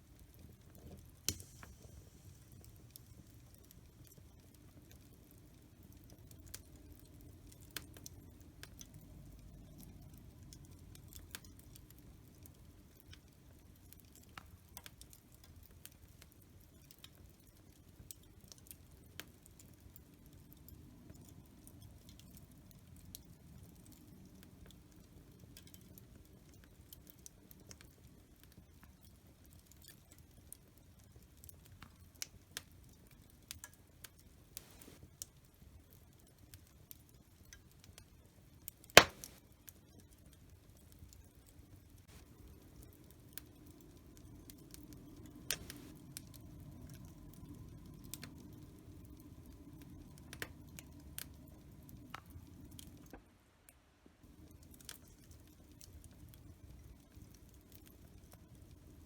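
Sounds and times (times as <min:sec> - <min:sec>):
wood fire crackling and popping: 0:00.0 - 0:53.2, 0:54.2 - 0:59.0
low rumble of burning: 0:00.0 - 0:53.3, 0:54.2 - 0:59.0.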